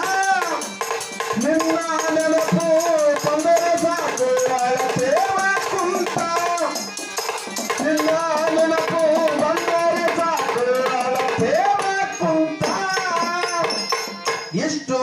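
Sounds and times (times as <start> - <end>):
hand drum strokes: 0.0 - 14.6.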